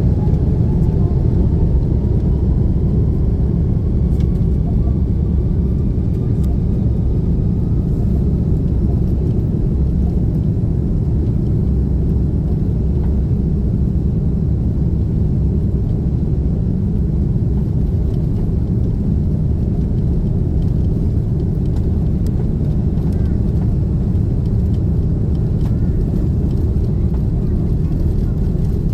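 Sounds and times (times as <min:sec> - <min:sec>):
airliner cabin rumble: 0:00.0 - 0:28.9.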